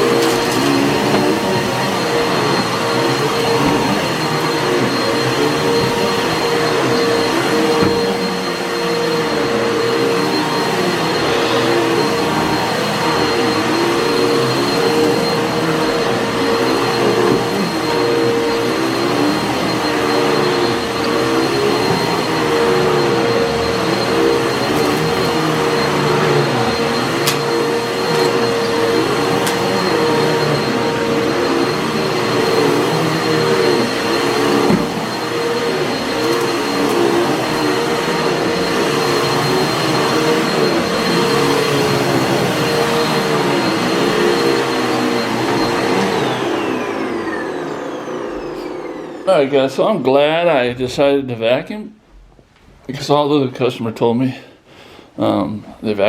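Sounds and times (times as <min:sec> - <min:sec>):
vacuum cleaner running: 0:00.0 - 0:51.2.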